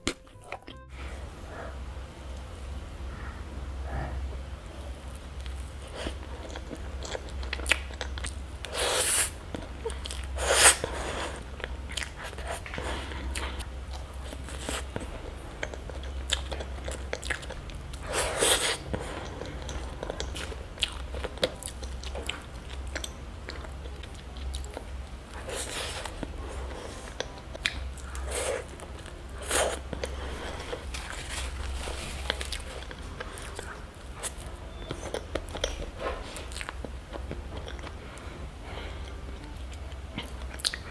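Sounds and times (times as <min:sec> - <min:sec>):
chewing and mouth clicks: 0:05.2 - 0:38.3, 0:39.0 - 0:40.9.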